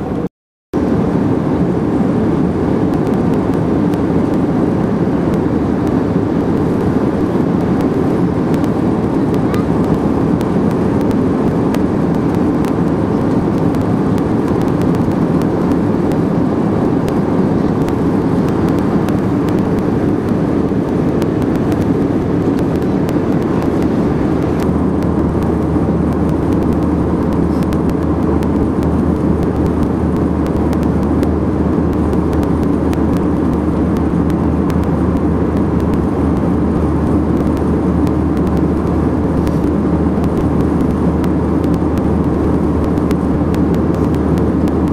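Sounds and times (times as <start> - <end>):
airliner cabin engine noise: 0.0 - 44.9.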